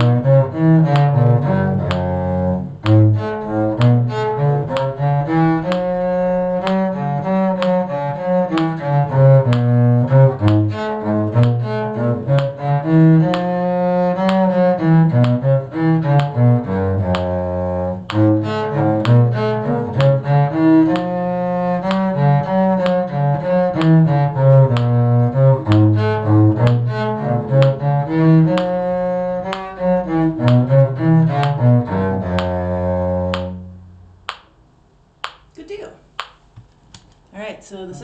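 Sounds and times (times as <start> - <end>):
bowed string music with cello: 0.0 - 34.4.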